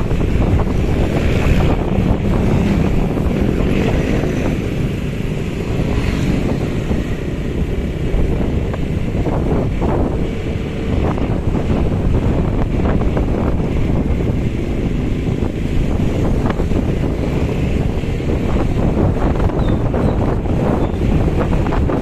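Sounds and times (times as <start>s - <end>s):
motorbike engines droning: 0.0s - 22.0s
traffic: 0.0s - 22.0s
wind buffeting microphone: 0.0s - 22.0s.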